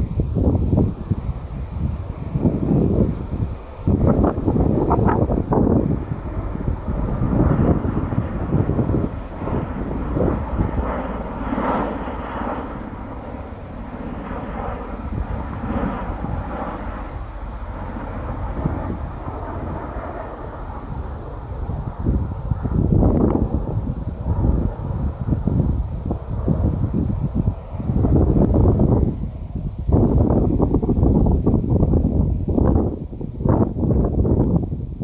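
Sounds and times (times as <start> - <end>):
tiltrotor aircraft rumbling overhead: 0.0 - 35.0
wind buffeting microphone: 0.0 - 35.0.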